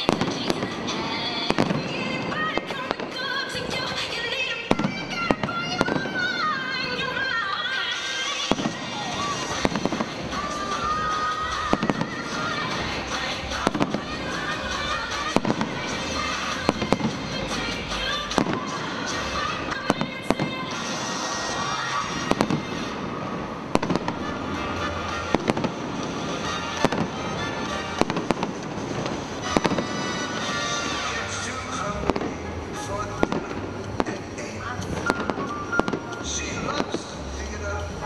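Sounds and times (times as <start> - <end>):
fireworks bursting with bangs: 0.0 - 38.0
music: 0.0 - 38.0.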